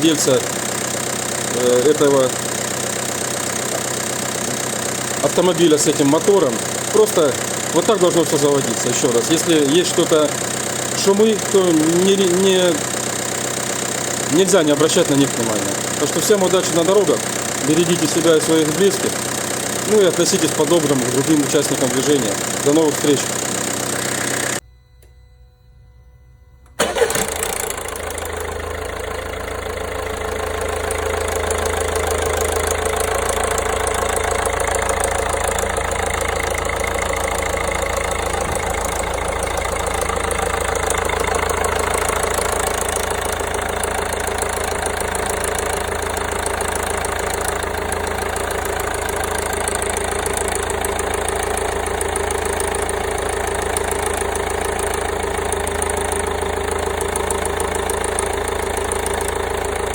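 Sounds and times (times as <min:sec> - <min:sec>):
diesel engine idling: 0:00.0 - 0:24.6, 0:26.6 - 0:59.9.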